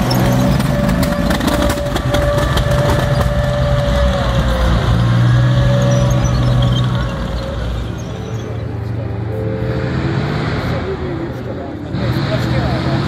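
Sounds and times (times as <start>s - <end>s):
tank engine running: 0.0s - 13.0s.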